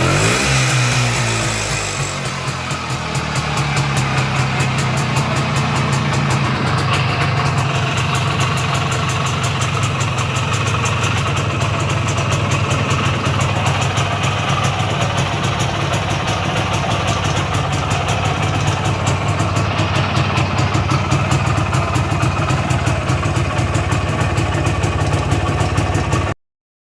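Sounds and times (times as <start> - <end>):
two-stroke engine idling: 0.0 - 26.4.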